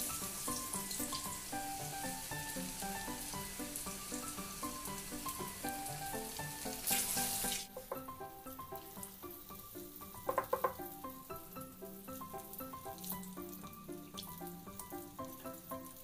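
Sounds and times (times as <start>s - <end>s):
food deep-frying in oil: 0.0s - 16.0s
melodic background music: 0.0s - 16.0s.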